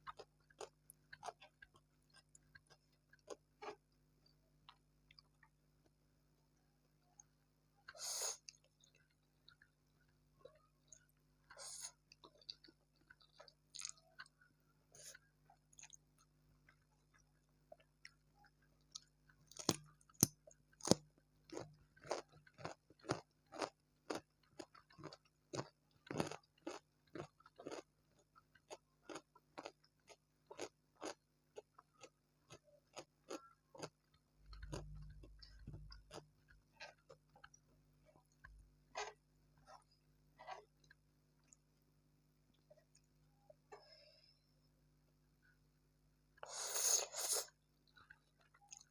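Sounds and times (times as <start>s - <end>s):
chewing crispy tempura: 0.0s - 4.0s, 7.8s - 41.6s, 46.4s - 48.9s.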